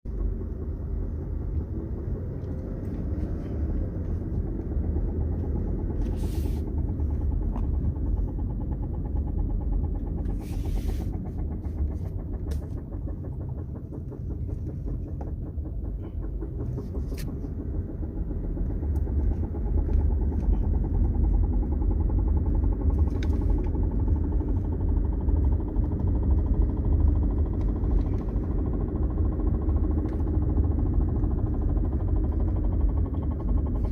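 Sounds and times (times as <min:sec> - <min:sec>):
car engine low rumble: 0:00.0 - 0:33.9.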